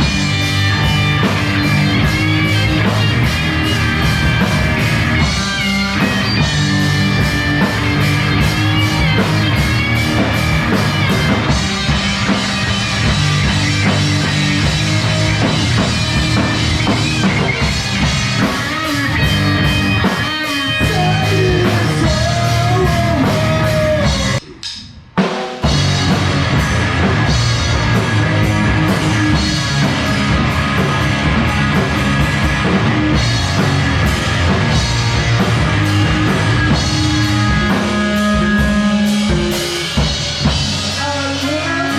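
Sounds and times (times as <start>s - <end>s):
guitar playing heavy rock: 0.0s - 24.4s, 25.6s - 41.9s
drum kit: 0.0s - 41.9s.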